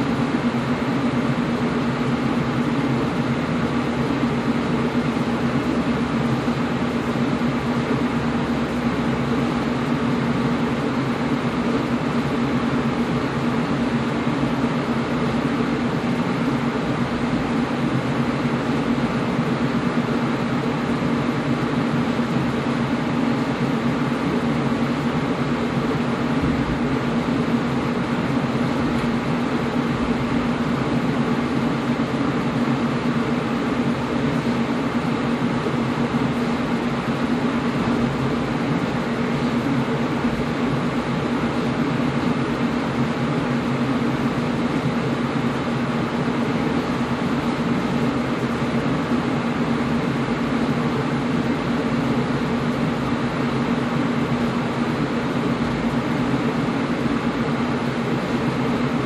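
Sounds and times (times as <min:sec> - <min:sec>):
air conditioner running: 0:00.0 - 0:59.0.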